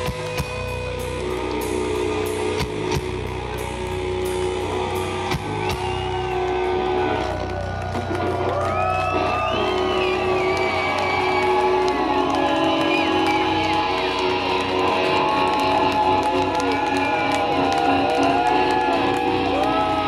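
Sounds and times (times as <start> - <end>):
music of long held notes: 0.0 - 20.0
crowd cheering and whooping: 3.4 - 20.0.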